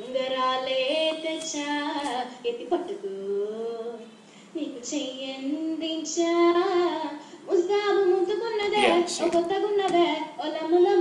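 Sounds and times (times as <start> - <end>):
young woman singing: 0.0 - 11.0.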